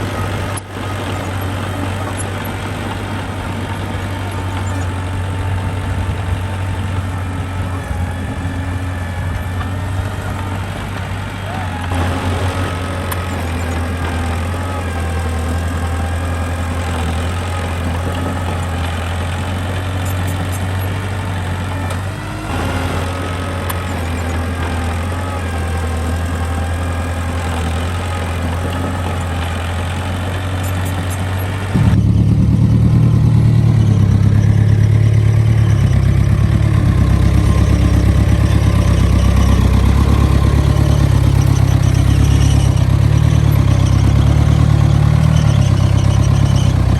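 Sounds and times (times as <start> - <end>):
deep pulsing engine: 0.0 - 46.9
diesel engine running: 0.0 - 46.9.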